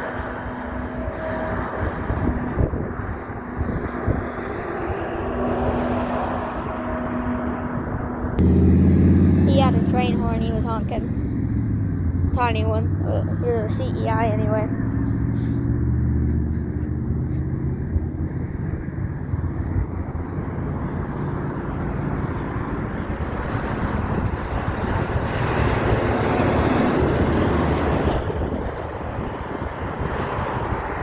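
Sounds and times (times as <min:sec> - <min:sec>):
engine drone: 0:00.0 - 0:31.0
vehicle rushing past: 0:00.0 - 0:31.0.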